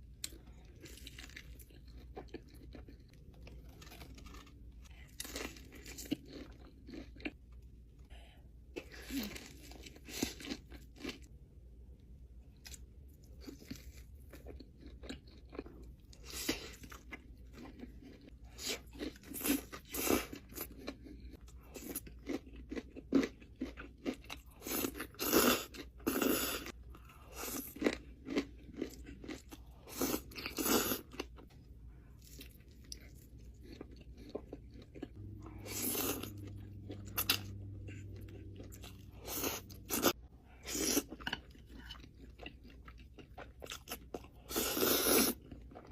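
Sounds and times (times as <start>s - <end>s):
person chewing crunchy food: 0.0s - 7.6s, 8.7s - 11.4s, 12.5s - 45.9s
low steady hum: 0.0s - 25.1s, 26.8s - 44.5s.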